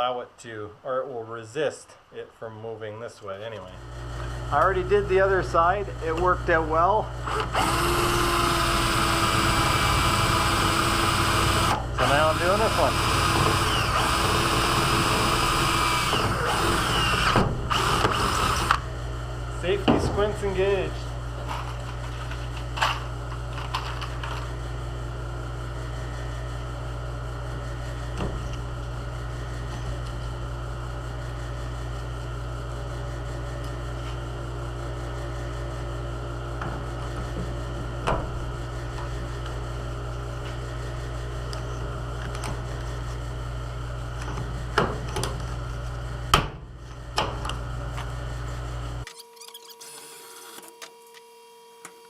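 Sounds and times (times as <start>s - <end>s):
electric welder humming: 3.8s - 44.8s, 45.4s - 52.0s.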